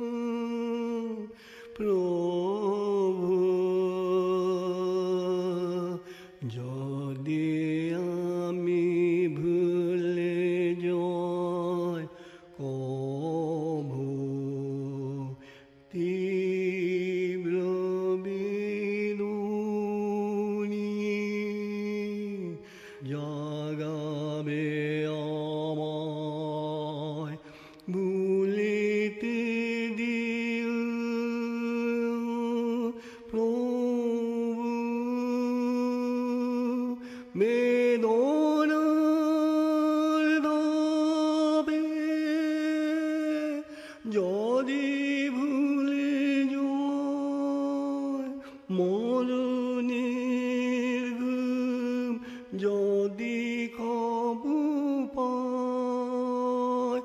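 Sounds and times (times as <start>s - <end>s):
person singing devotional song: 0.0s - 57.0s.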